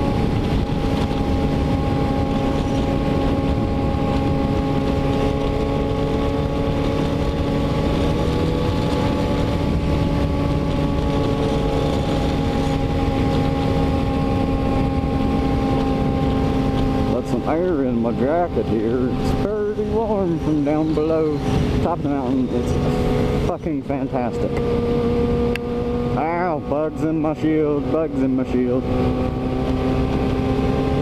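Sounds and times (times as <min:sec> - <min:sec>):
motorcycle engine cruising: 0:00.0 - 0:31.0
wind rushing over microphone: 0:00.0 - 0:31.0.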